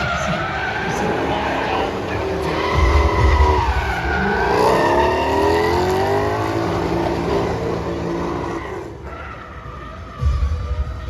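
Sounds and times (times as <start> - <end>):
car engine revving hard: 0.0 - 9.1.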